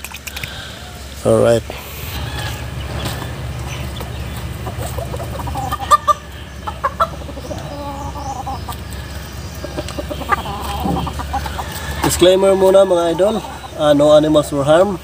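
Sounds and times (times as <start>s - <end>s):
chicken clucking and squawking: 1.8s - 15.0s.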